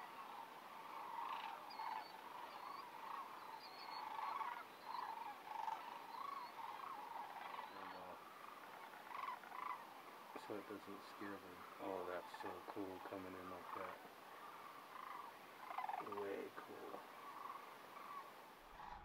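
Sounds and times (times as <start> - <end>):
cranes calling: 0.0 - 19.0.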